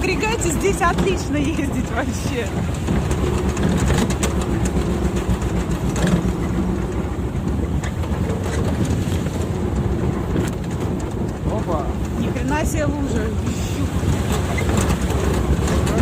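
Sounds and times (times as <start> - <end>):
tractor diesel engine running: 0.0 - 16.0
trailer rattling and knocking: 0.0 - 16.0.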